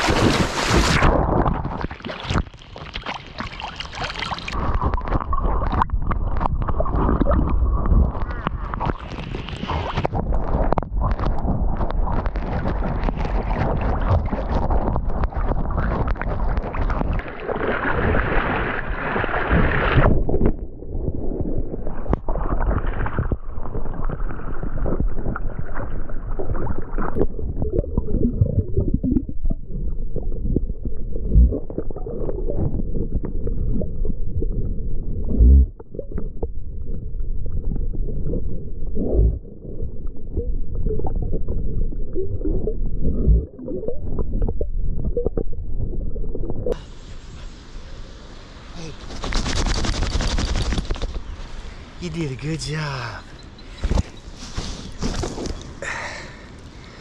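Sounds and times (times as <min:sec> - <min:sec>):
muffled gurgling water: 0:00.0 - 0:52.0
water splashing and sloshing: 0:00.0 - 0:52.8, 0:53.4 - 0:57.0.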